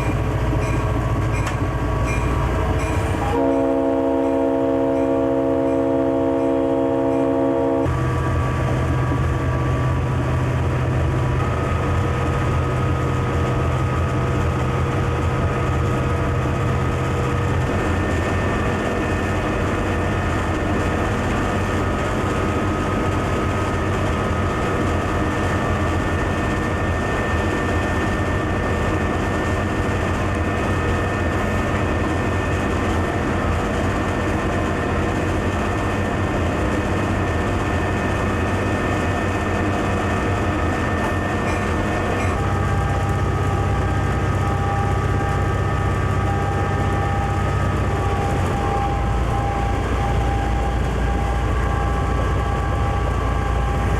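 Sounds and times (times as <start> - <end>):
diesel locomotive engine drone: 0.0 - 53.9.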